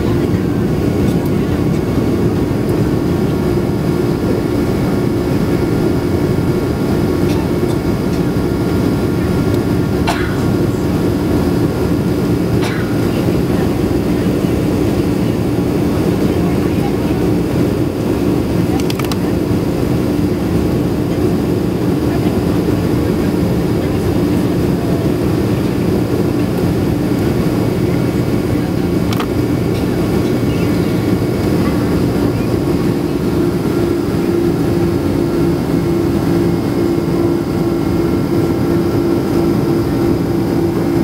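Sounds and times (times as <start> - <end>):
jet engine and airflow in cabin: 0.0 - 41.0.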